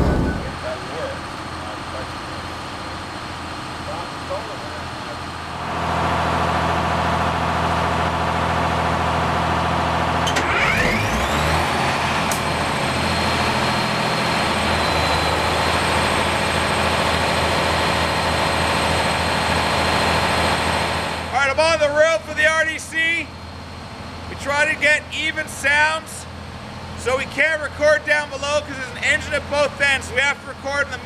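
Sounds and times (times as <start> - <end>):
diesel engines running: 0.0 - 31.0
engine whine: 0.0 - 31.0.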